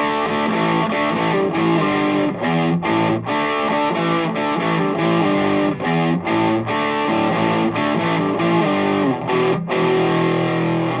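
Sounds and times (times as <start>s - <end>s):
distorted electric guitar riff: 0.0s - 11.0s.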